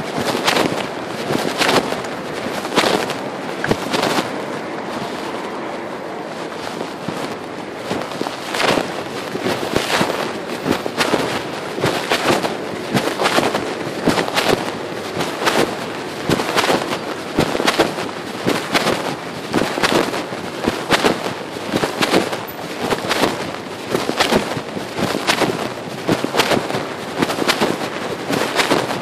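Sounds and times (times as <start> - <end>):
microphone pops: 0.0 - 4.3, 6.9 - 29.0
fabric rubbing on microphone: 0.0 - 29.0.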